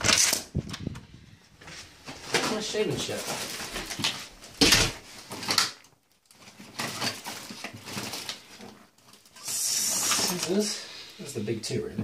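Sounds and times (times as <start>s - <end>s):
plastic items clattering: 0.0s - 11.1s.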